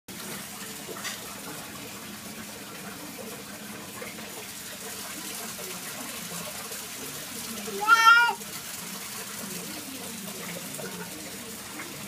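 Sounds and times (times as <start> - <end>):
liquid trickling into water: 0.1 - 12.0.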